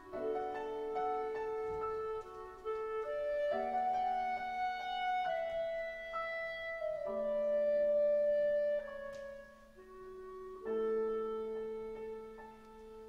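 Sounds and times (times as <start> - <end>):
grand piano: 0.0 - 13.0
small orchestra holding long notes: 0.0 - 13.0.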